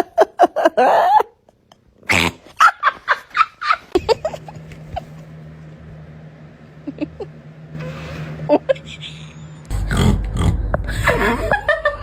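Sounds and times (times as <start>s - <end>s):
steady low hum: 1.5s - 12.0s.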